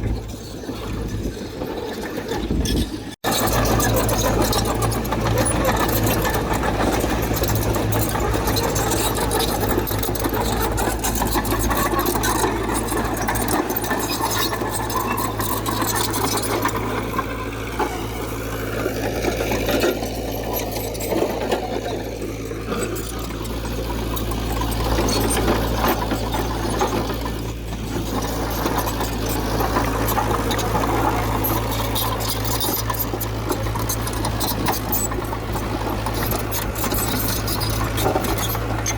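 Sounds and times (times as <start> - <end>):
heavy machinery diesel engine: 0.0 - 38.9
metallic rattling and clanking: 0.0 - 38.9.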